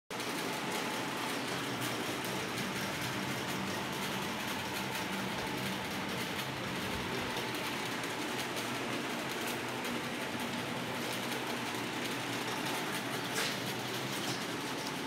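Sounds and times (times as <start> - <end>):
mechanical hum and hiss: 0.2 - 15.0
thin constant whine: 0.2 - 15.0.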